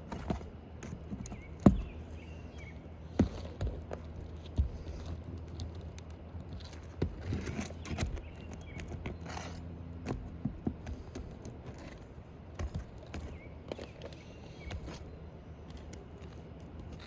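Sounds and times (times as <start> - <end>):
steady low hum: 0.0 - 17.0
hand tool clicking and scraping: 3.2 - 17.0.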